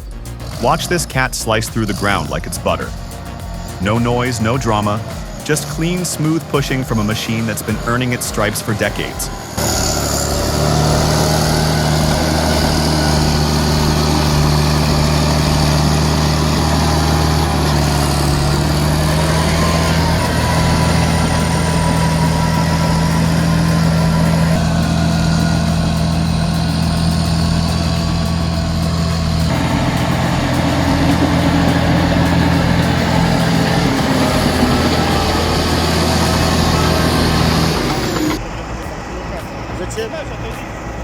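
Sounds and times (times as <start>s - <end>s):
bulldozer diesel engine drone: 0.0s - 41.0s.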